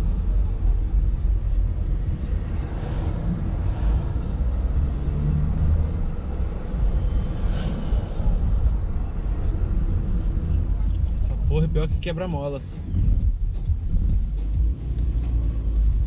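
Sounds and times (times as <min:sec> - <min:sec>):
car road rumble from inside: 0:00.0 - 0:16.0.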